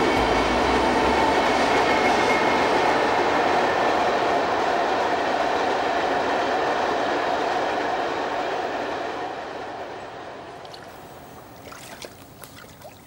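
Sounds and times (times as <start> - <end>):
train rumbling over bridge: 0.0 - 12.7.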